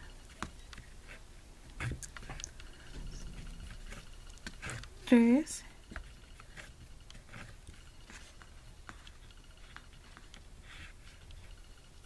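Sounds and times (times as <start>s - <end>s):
scratchy brushing: 0.2s - 12.0s.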